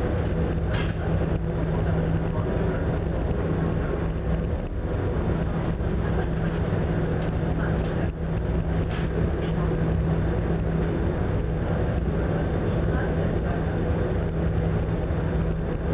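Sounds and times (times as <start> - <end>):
ferry engine humming: 0.0 - 15.9
heavy seas: 0.0 - 15.9.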